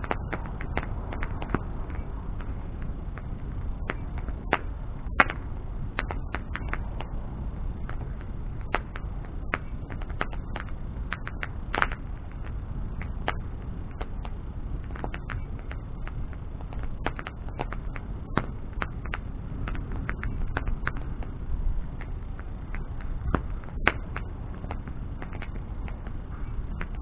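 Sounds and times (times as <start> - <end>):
bonfire crackling and popping: 0.0 - 27.0
low rumble of flames: 0.0 - 27.0.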